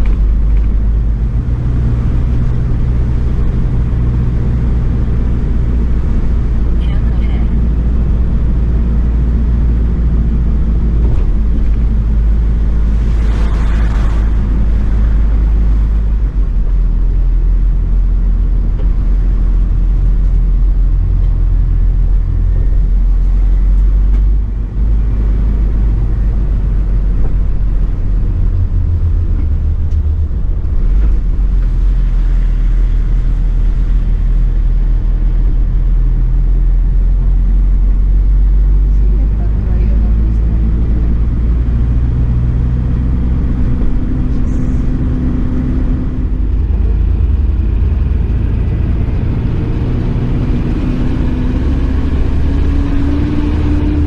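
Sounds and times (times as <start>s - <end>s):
truck diesel engine rumbling: 0.0s - 54.0s
tyres on wet road: 0.0s - 54.0s.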